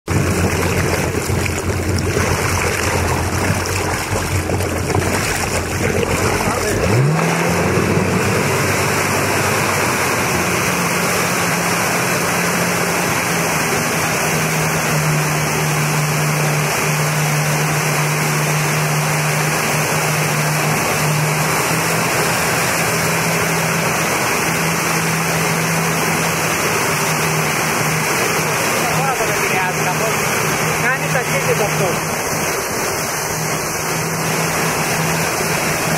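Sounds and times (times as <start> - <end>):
churning water rushing: 0.0 - 35.9
jet ski engine humming: 0.0 - 35.9.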